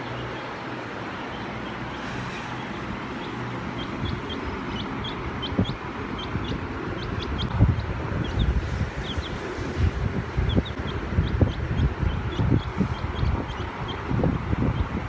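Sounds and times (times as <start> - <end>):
baby chicks peeping: 0.0 - 15.0.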